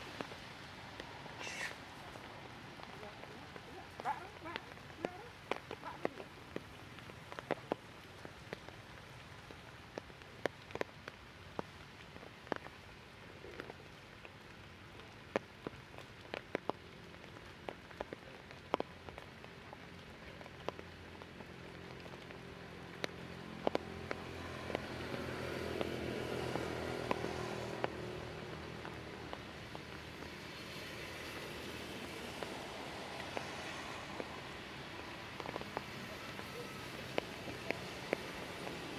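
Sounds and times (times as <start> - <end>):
rainwater dripping on leaves: 0.0 - 38.9
soft steady hiss: 0.0 - 38.9.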